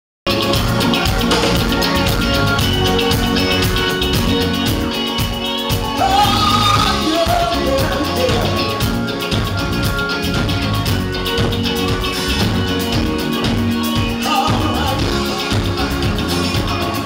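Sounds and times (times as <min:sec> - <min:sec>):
bending lead melody: 0:00.3 - 0:17.0
blues band playing: 0:00.3 - 0:17.0.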